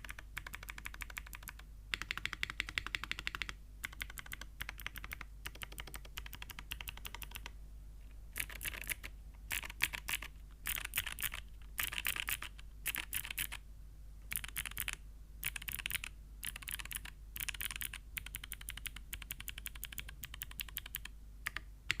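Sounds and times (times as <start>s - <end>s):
mechanical keyboard typing: 0.0s - 7.5s, 8.4s - 13.6s, 14.3s - 22.0s.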